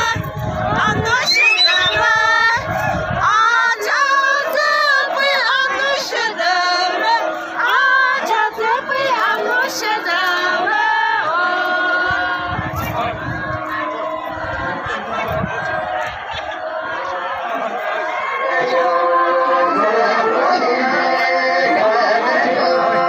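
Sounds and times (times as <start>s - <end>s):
women singing in chorus: 0.0s - 23.0s.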